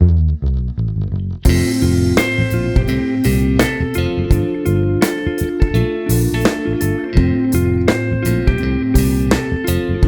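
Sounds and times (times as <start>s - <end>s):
low plucked notes: 0.0s - 10.0s
background music: 1.5s - 10.0s.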